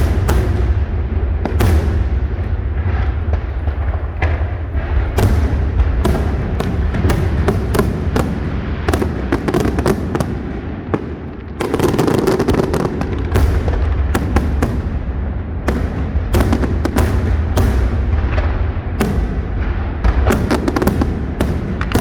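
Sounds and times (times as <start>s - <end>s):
constant rumble: 0.0s - 11.7s, 12.8s - 22.0s
fireworks crackling bursts: 0.0s - 22.0s
fireworks shell booms: 0.0s - 22.0s.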